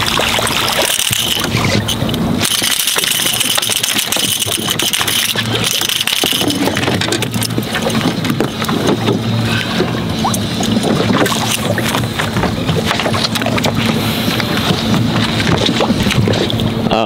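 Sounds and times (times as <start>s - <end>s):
fish flopping on boat deck: 0.0s - 16.9s
low mechanical hum: 0.0s - 17.0s.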